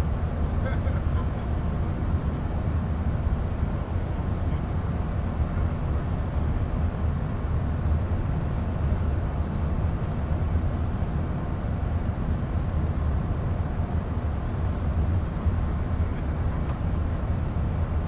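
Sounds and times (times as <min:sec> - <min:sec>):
aircraft cabin engine drone: 0:00.0 - 0:18.0.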